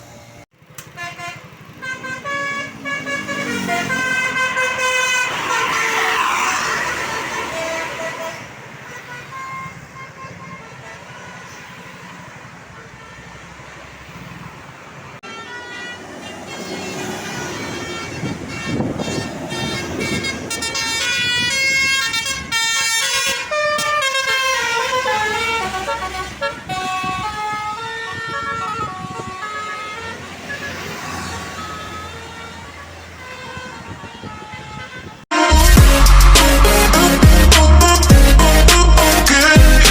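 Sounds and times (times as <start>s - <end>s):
bus engine running: 0.0s - 11.2s, 12.4s - 34.4s, 35.3s - 39.9s
road noise: 0.0s - 39.9s
multi-tone air horn tune: 0.8s - 12.0s, 15.2s - 39.9s.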